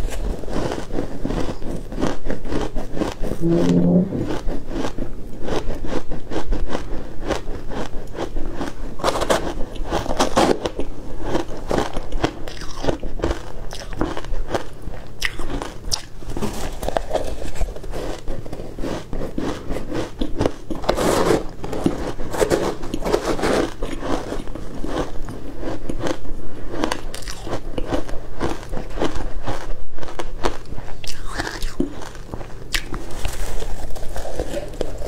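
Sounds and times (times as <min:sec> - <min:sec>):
crunching ice: 0:05.5 - 0:35.0.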